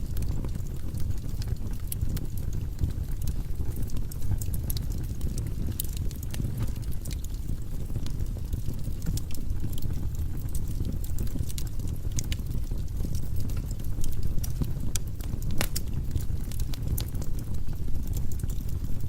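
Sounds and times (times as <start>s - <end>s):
fire rumbling: 0.0s - 19.0s
wood crackling and popping: 0.0s - 19.0s.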